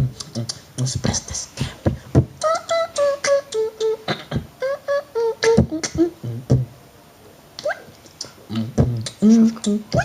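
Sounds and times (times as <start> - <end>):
person beatboxing: 0.0 - 6.7, 7.6 - 10.0.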